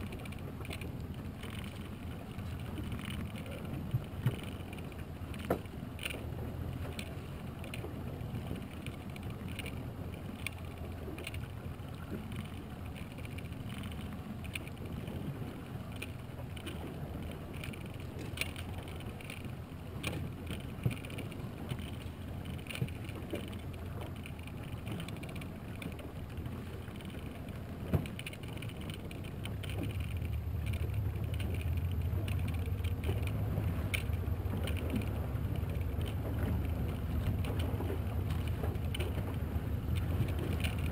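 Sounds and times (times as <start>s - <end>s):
fishing tackle clicks and knocks: 0.0s - 40.9s
outboard motor drone: 0.0s - 40.9s
water noise: 0.0s - 40.9s
wind: 0.0s - 40.9s.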